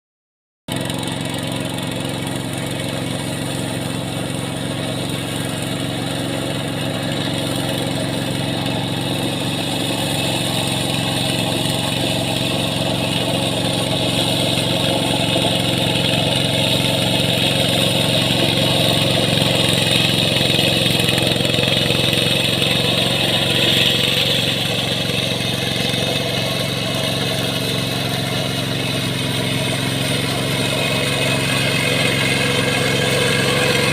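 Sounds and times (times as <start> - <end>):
tractor engine running: 0.7 - 33.9.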